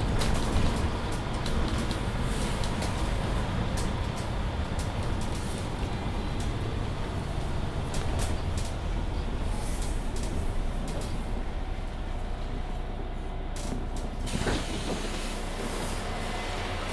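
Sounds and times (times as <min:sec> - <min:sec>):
bus engine low rumble: 0:00.0 - 0:16.9.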